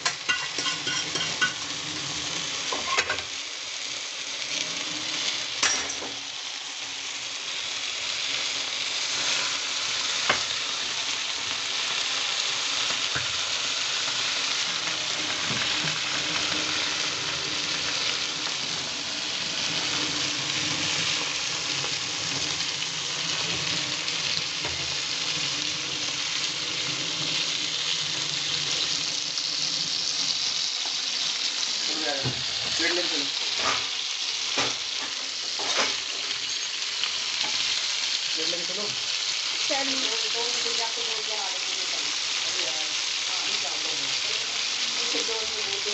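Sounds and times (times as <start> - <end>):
food sizzling in a pan: 0.0 - 45.9.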